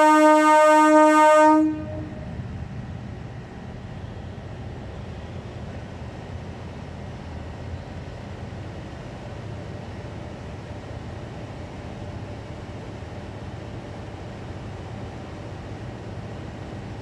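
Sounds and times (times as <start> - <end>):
diesel railcar engine idling: 0.0 - 17.0.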